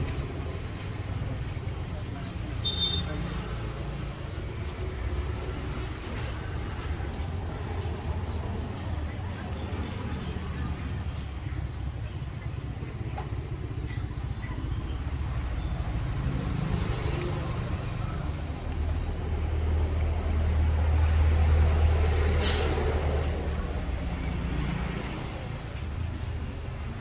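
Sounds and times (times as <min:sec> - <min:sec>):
vehicle passing rumble: 0:00.0 - 0:27.0.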